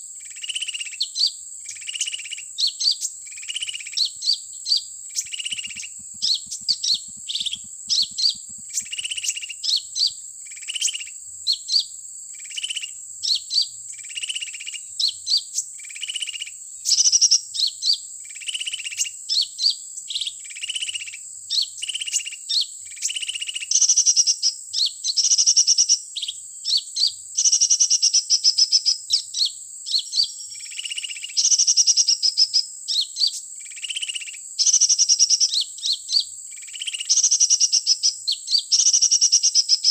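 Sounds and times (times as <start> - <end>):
recorded bird chirps and trills: 0.0 - 39.9.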